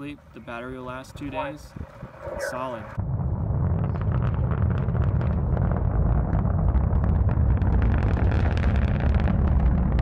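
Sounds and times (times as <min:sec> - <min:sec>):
rocket launch rumble: 0:01.1 - 0:10.0
crackling: 0:01.2 - 0:10.0.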